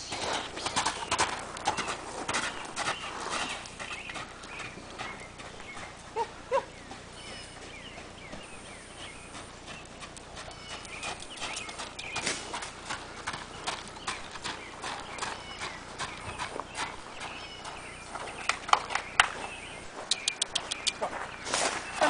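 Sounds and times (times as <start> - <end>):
horse hooves trotting on gravel: 0.0 - 22.0.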